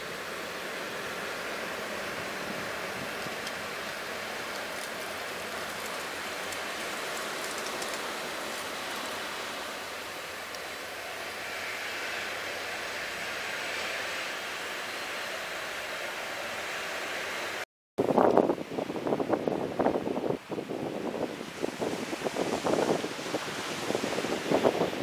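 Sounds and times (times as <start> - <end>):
steady rushing hiss: 0.0 - 25.0.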